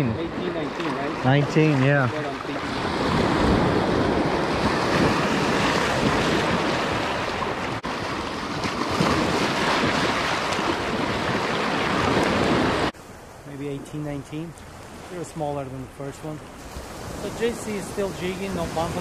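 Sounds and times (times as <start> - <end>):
surf washing over rocks: 0.0 - 13.0, 16.5 - 19.0
wind buffeting microphone: 0.0 - 13.0, 16.4 - 19.0.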